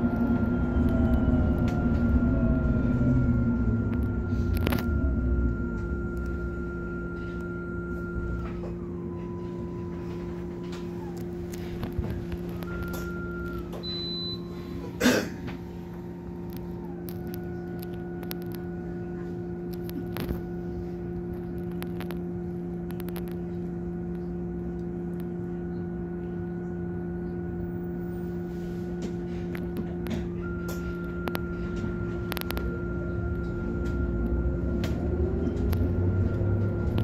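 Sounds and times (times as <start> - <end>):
bus engine humming: 0.0 - 37.0.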